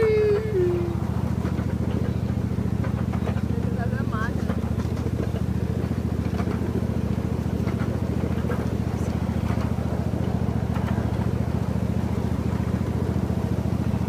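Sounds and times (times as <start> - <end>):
train engine pulsing hum: 0.0 - 14.0.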